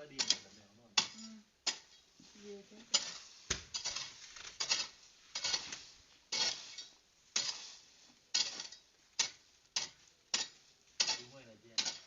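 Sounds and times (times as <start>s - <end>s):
metal tool striking soil: 0.0s - 2.1s, 2.8s - 12.0s.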